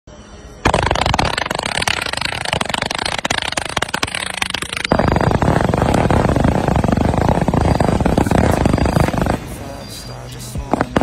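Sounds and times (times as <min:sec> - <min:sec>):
fireworks popping and banging: 0:00.7 - 0:11.0.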